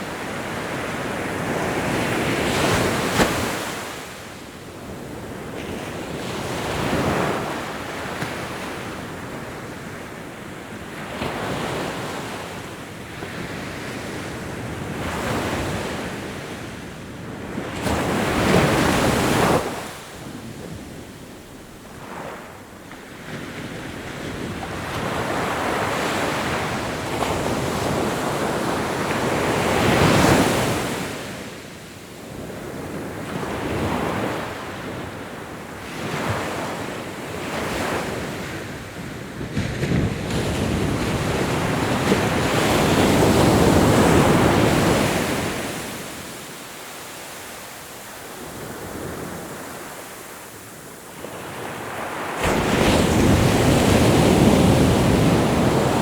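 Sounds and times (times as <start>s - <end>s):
ocean waves breaking on shore: 0.0s - 10.0s, 13.3s - 56.0s.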